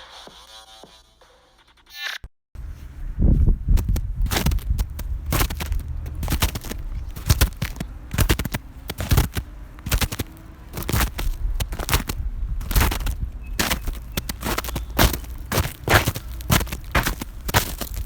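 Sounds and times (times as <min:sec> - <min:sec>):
footsteps crunching through snow: 0:02.6 - 0:18.0.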